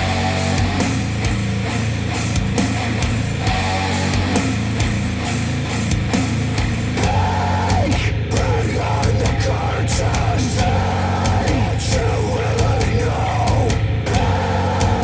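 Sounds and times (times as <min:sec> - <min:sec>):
rock music with drums: 0:00.0 - 0:15.0.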